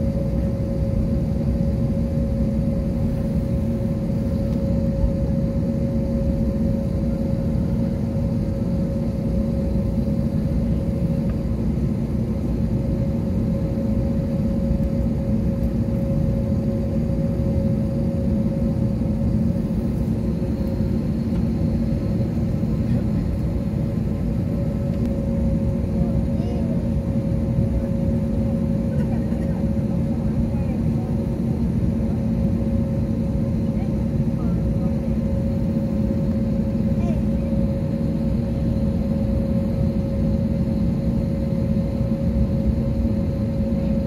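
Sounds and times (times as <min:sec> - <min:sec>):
constant engine whine: 0:00.0 - 0:44.0
jet airliner cabin drone: 0:00.0 - 0:44.0.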